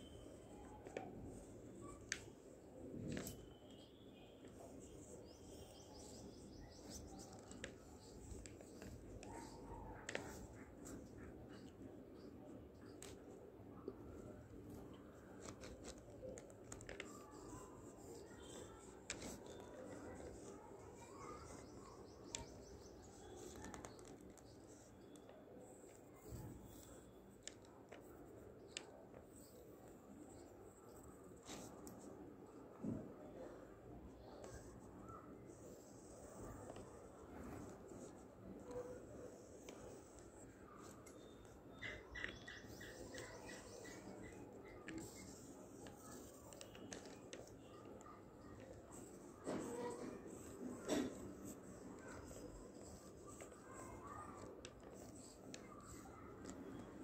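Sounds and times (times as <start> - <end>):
pencil scratching on paper: 0.0 - 33.5, 34.1 - 57.0.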